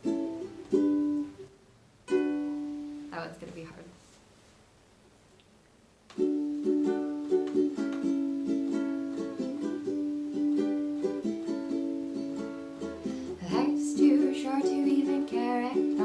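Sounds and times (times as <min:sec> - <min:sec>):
ukulele strumming chords: 0:00.0 - 0:03.1, 0:06.1 - 0:16.0.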